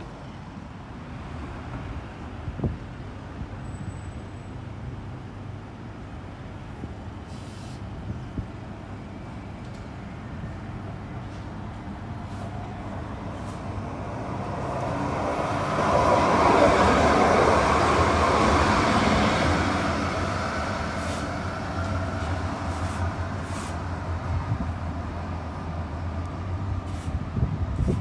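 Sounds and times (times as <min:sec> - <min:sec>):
tram passing by: 0:00.0 - 0:28.0.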